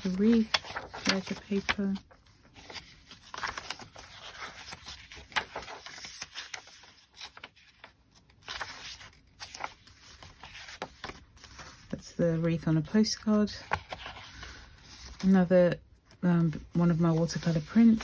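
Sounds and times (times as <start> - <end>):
paper and card rustling: 0.0 - 18.0.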